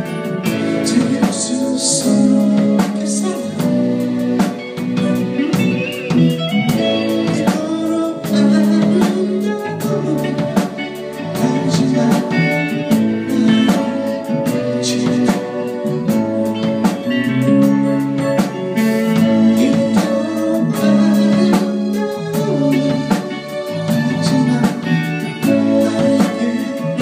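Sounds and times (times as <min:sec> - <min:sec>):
drum kit and cymbals: 0:00.0 - 0:27.0
electric guitar: 0:00.0 - 0:27.0.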